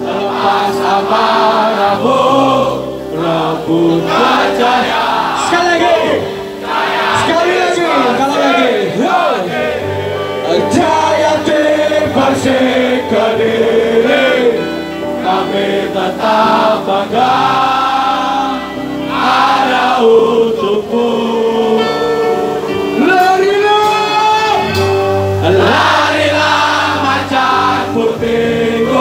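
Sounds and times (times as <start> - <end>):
crowd singing in unison: 0.0 - 29.0
live band playing: 0.0 - 29.0.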